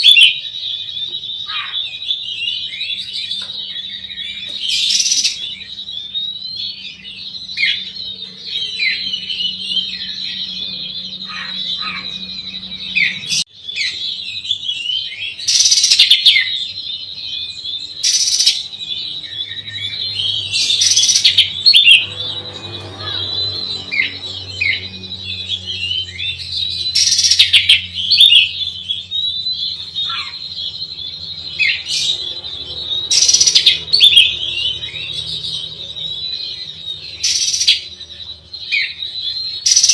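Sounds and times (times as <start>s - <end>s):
songbird singing chirps and whistles: 0.0s - 39.9s.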